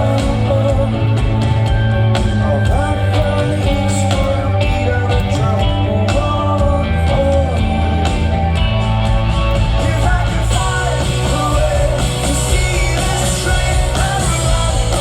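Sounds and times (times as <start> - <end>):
lead vocal singing: 0.0 - 8.8, 9.4 - 15.0
rock band playing live: 0.0 - 15.0.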